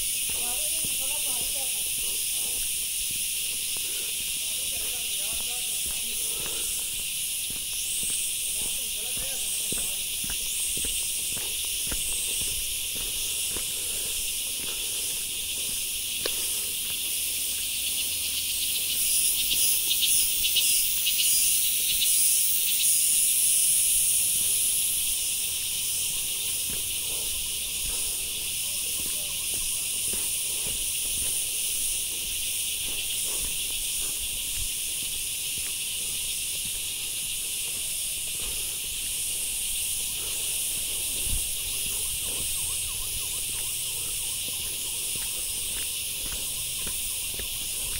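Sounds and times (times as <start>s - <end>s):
cicadas chorus: 0.0s - 47.9s
footsteps on dirt path: 0.0s - 47.9s.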